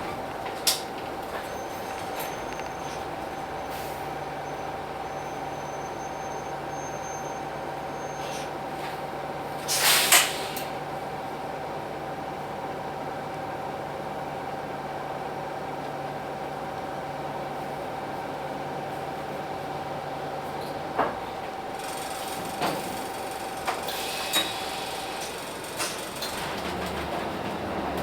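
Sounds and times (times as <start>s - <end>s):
bus diesel engine idling: 0.0s - 28.0s.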